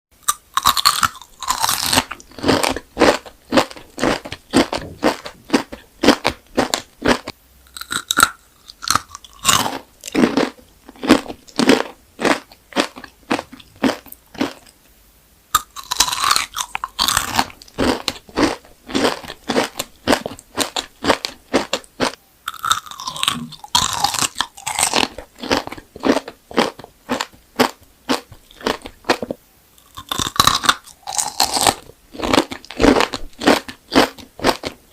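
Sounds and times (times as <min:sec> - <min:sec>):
crunchy chewing of candy: 0:00.2 - 0:14.8, 0:15.5 - 0:34.9.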